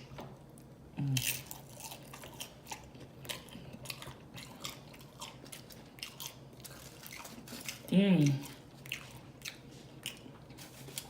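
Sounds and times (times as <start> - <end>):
person crunching tortilla chips: 1.0 - 11.0.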